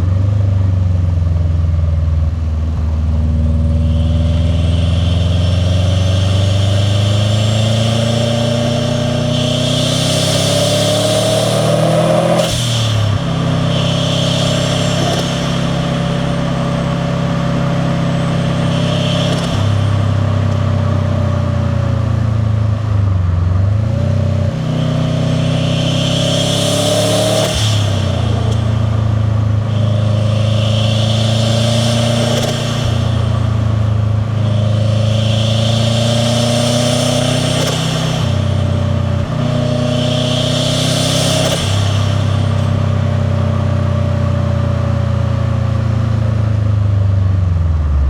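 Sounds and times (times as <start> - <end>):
car engine revving: 0.0 - 48.0
turbo and intake hiss: 2.2 - 23.0, 23.7 - 46.6.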